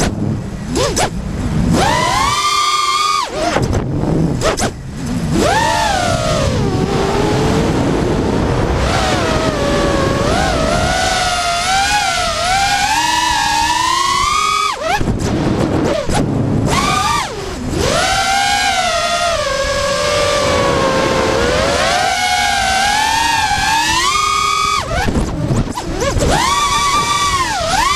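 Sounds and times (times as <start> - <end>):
quadcopter propellers whining: 0.0 - 27.9.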